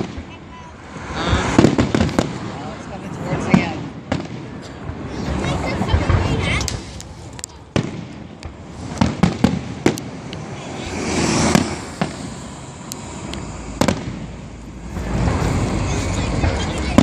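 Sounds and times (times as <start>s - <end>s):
firework bangs: 0.0s - 17.0s
firework hiss: 0.0s - 17.0s.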